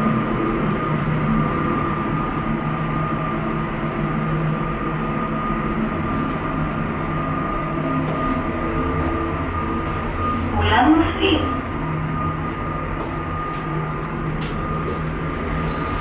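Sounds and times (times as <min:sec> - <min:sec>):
elevator rumble and hum: 0:00.0 - 0:16.0
high-pitched whine: 0:00.0 - 0:16.0.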